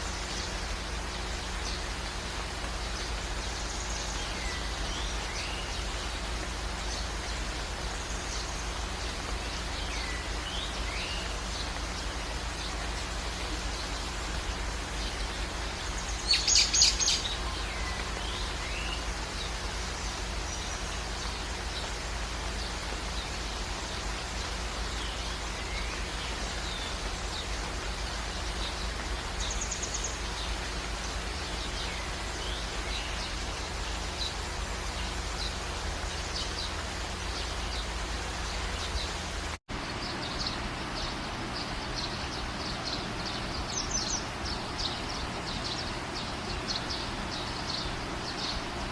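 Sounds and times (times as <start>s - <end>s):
rain hiss: 0.0s - 48.9s
songbirds chirping: 0.0s - 48.9s.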